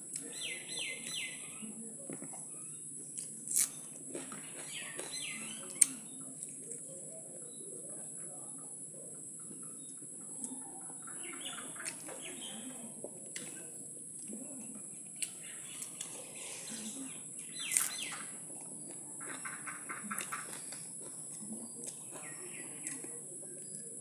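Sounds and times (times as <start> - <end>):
birds chirping: 0.1 - 3.0, 3.8 - 13.0, 15.1 - 24.0.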